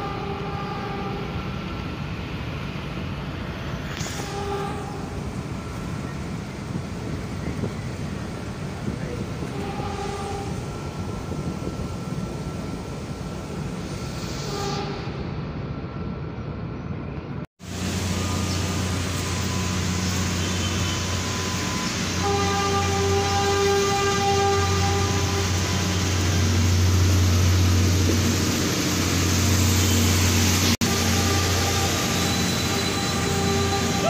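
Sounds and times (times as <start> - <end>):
diesel train engine droning: 0.0 - 34.0.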